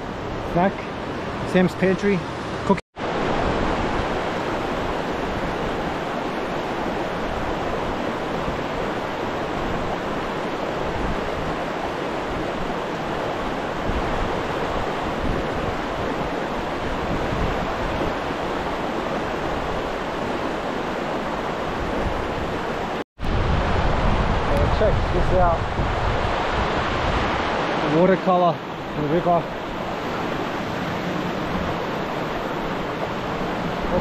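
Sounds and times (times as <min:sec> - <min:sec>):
stream water rushing: 0:00.0 - 0:34.0
wind rumbling on microphone: 0:02.4 - 0:28.1, 0:28.7 - 0:34.0.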